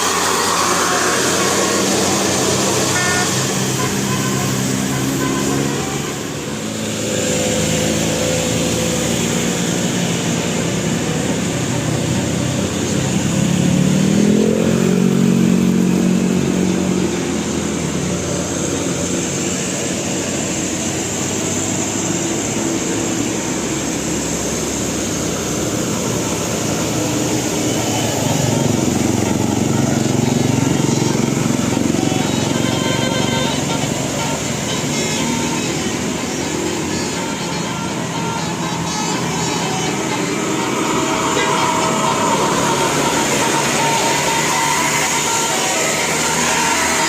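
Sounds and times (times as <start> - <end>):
engine revving: 0.0 - 47.0
road traffic and engines: 0.0 - 47.0.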